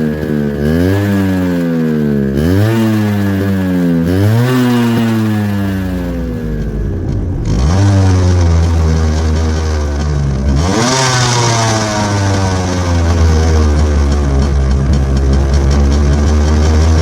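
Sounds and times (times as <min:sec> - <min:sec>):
motorcycle engine idling: 0:00.0 - 0:17.0
motorcycle engine revving: 0:00.0 - 0:17.0.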